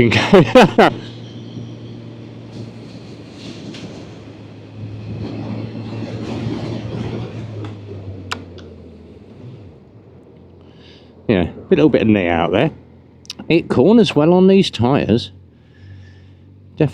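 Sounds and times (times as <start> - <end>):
motorcycle engine at low revs: 0.0 - 16.9
wind and road noise: 0.0 - 16.9.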